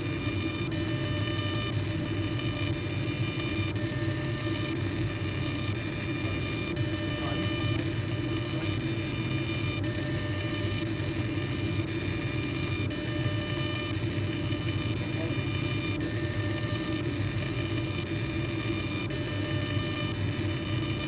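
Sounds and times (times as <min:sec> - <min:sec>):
laser engraving machine humming: 0:00.0 - 0:21.0.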